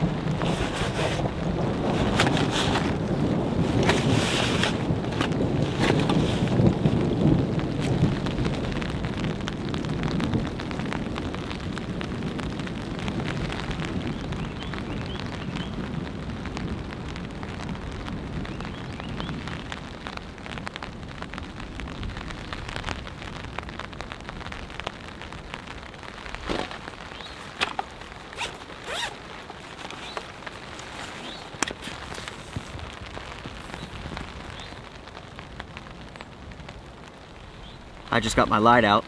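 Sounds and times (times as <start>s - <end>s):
rain pattering on a tarp: 0.0s - 39.0s.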